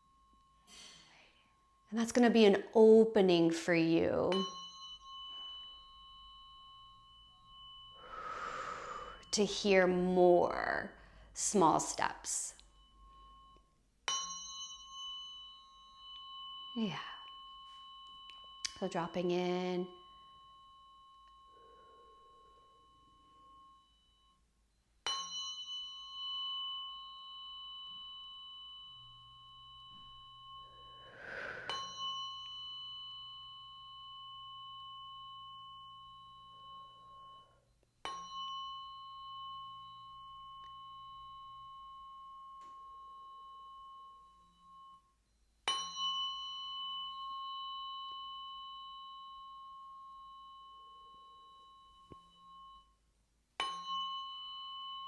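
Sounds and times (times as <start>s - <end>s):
tuning forks ringing: 0.0s - 55.0s.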